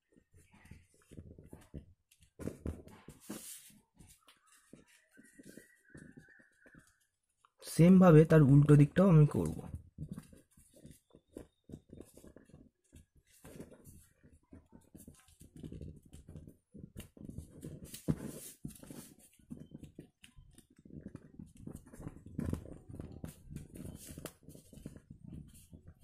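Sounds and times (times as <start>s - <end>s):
paper rustling and crinkling: 0.0s - 7.6s, 9.3s - 26.0s.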